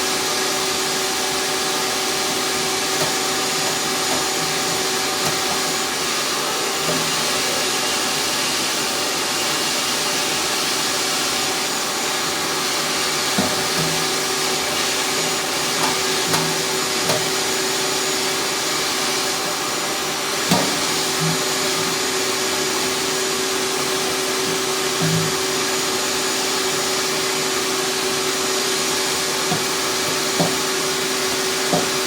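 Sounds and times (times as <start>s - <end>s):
vacuum cleaner whining: 0.0s - 32.0s.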